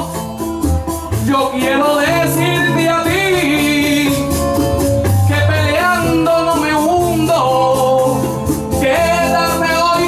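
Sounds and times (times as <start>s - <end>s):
guitar: 0.0s - 10.0s
man singing: 0.0s - 10.0s.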